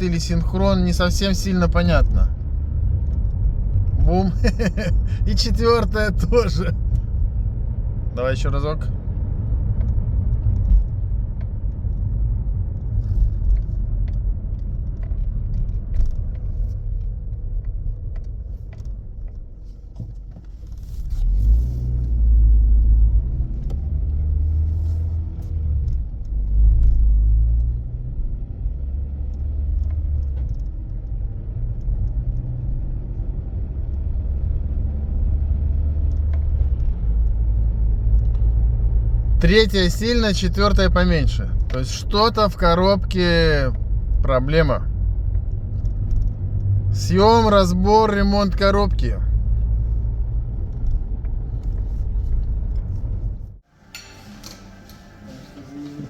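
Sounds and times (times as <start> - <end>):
car driving with low rumble: 0.0 - 56.0.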